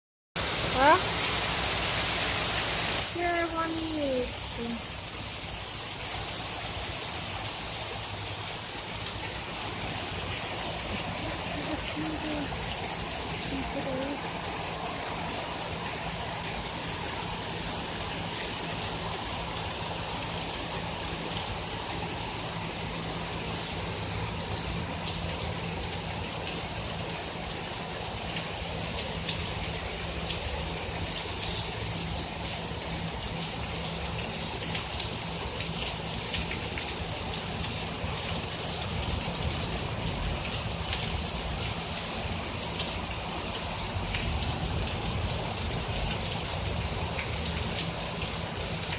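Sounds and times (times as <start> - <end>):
gushing water: 0.4 - 48.9
heavy rain downpour: 0.4 - 48.9.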